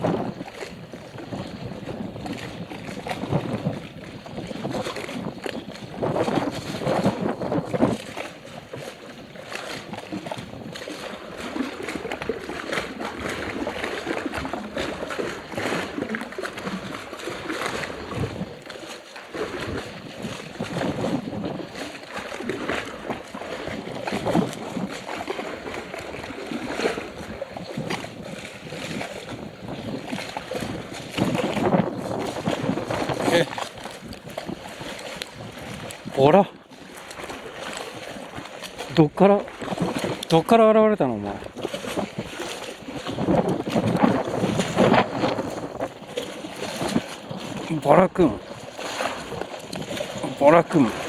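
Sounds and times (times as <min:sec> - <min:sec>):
lake water splashing: 0:00.0 - 0:51.0.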